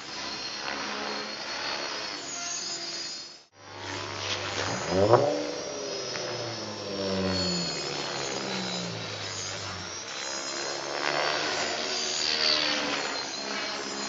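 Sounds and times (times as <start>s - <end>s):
model airplane motor buzzing: 0.0s - 14.0s.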